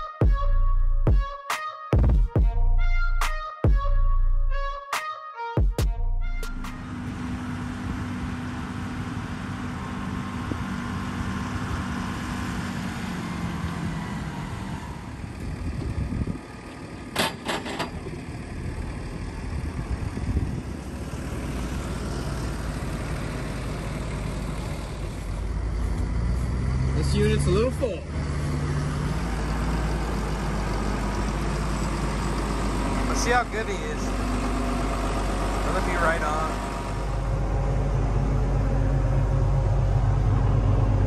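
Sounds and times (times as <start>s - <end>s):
tractor and forage harvester running: 6.3s - 41.0s.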